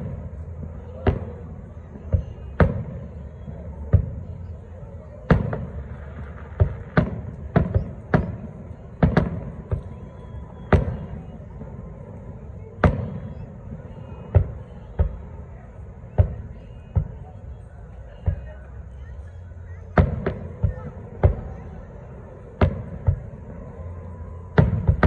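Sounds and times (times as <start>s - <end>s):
fireworks booming with echo: 0.0s - 25.0s.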